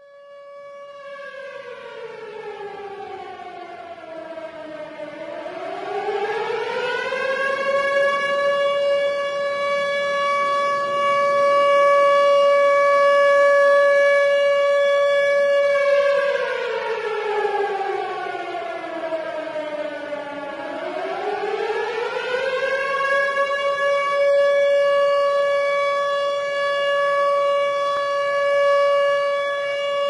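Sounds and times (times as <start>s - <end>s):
warning siren wailing: 0.0s - 30.0s.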